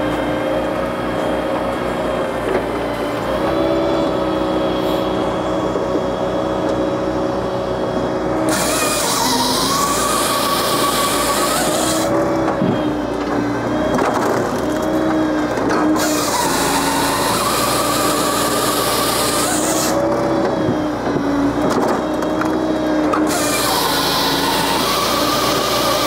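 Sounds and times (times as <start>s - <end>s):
chainsaw cutting through log: 0.0s - 26.0s
engine drone: 0.0s - 26.0s.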